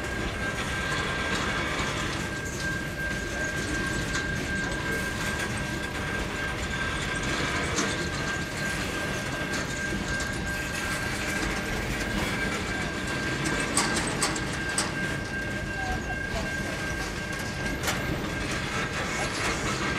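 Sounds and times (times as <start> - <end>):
train wheels on rails: 0.0 - 19.9.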